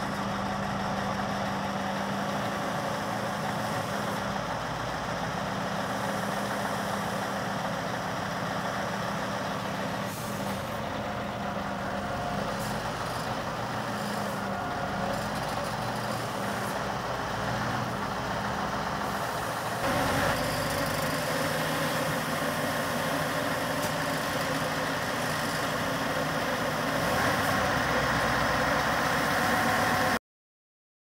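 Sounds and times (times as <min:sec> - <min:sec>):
truck diesel engine idling: 0:00.0 - 0:30.2.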